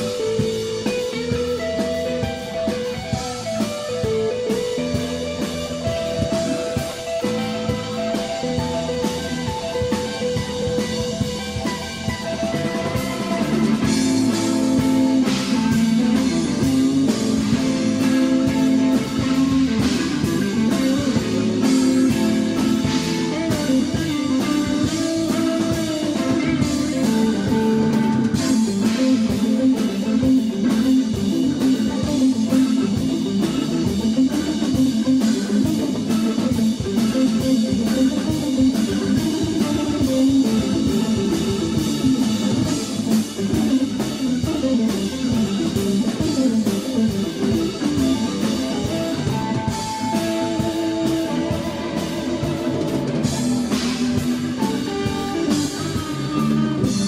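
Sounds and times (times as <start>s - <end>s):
guitar rock music with drums: 0.0s - 57.0s.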